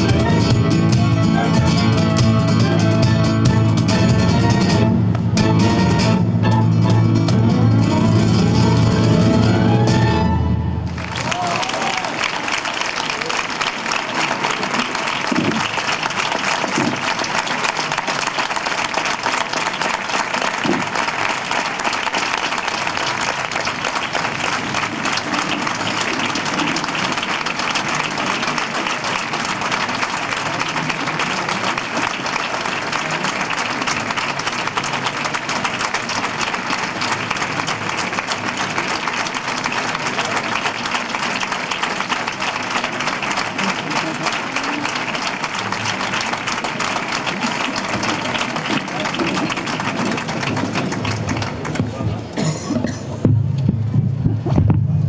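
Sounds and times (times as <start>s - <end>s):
audience applauding: 0.0s - 4.9s, 10.8s - 52.6s.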